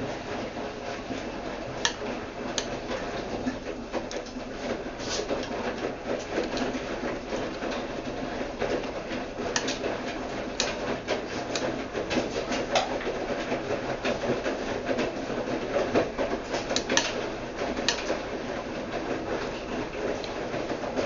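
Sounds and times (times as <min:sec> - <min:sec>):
washing machine churning: 0:00.0 - 0:21.0.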